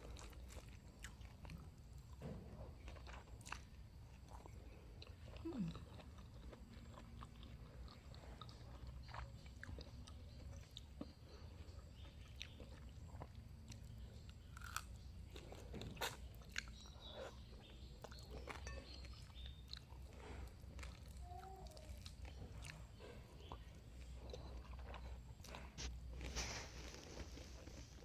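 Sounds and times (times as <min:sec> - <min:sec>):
chewing and crunching food: 0:00.0 - 0:28.0.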